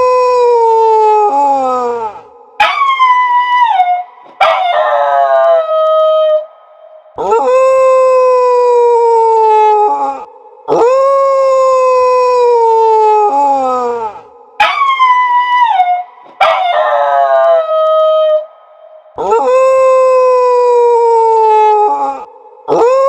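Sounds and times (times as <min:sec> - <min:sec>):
dog howling: 0:02.6 - 0:06.6, 0:07.2 - 0:18.6, 0:19.2 - 0:23.0.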